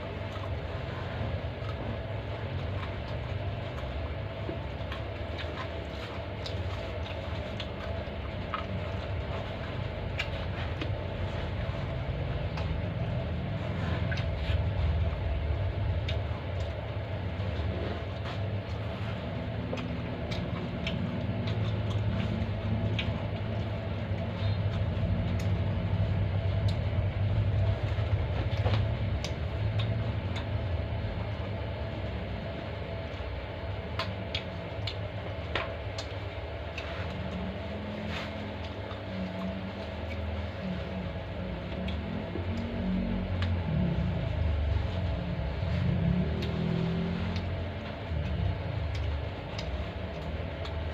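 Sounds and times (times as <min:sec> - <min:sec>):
close eating sounds: 0:00.0 - 0:50.9
low rumble and hum: 0:00.0 - 0:50.9.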